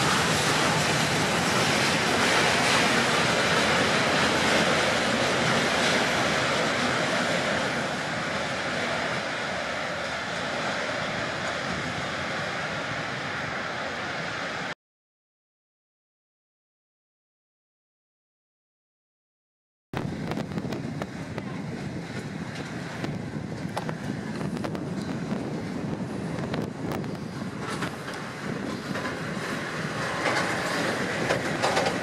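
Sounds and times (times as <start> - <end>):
train rolling on rails: 0.0 - 14.8, 20.0 - 32.0.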